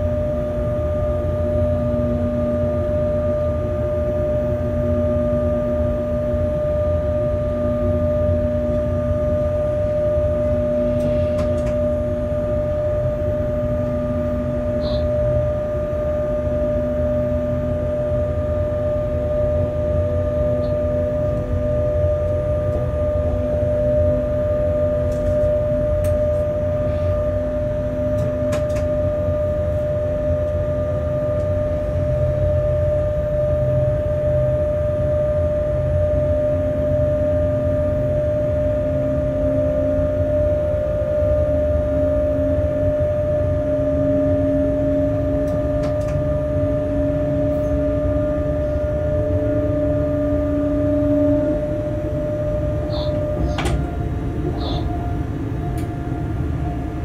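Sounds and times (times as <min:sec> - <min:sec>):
high whine: 0:00.0 - 0:57.0.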